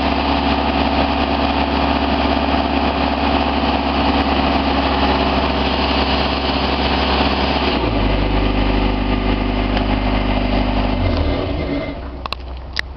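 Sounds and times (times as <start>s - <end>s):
machine engine running: 0.0s - 12.3s.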